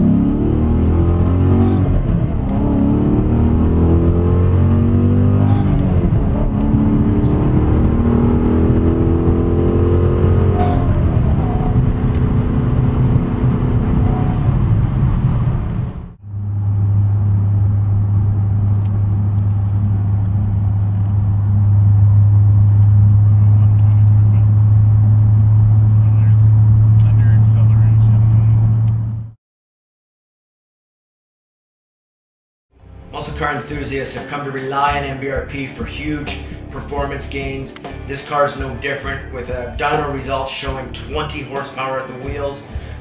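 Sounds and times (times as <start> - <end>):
car engine revving: 0.0 - 29.4, 32.8 - 43.0.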